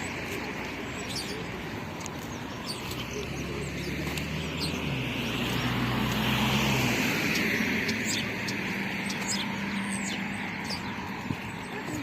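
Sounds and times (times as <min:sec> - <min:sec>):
bird chirps: 0:00.0 - 0:04.9, 0:07.2 - 0:12.0
motor vehicle passing by: 0:00.0 - 0:12.0.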